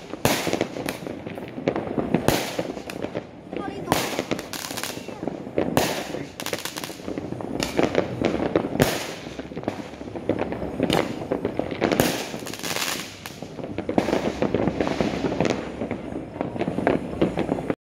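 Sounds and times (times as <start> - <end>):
fireworks bangs: 0.0 - 17.8
fireworks crackling: 0.0 - 17.8.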